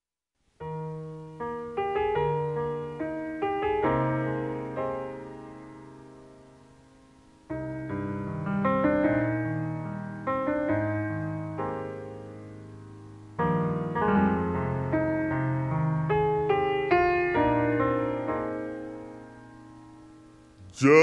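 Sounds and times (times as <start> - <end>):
slow solo piano: 0.5 - 20.9.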